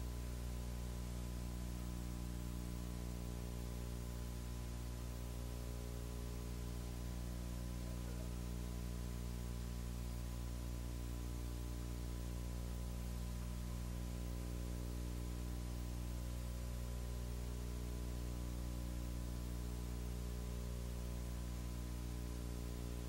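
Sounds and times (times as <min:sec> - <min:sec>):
low electrical hum: 0:00.0 - 0:23.0
tape hiss: 0:00.0 - 0:23.0.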